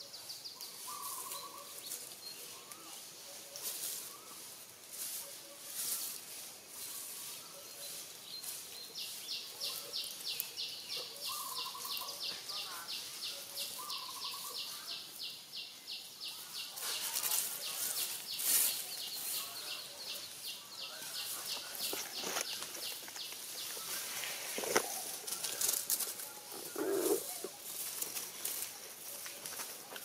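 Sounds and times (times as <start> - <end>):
dry leaves crackling and rustling: 0.3 - 30.0.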